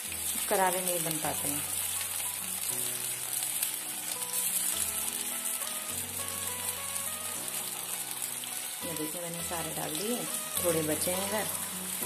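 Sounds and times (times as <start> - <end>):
background music: 0.0 - 12.0
food deep-frying in oil: 0.0 - 12.0.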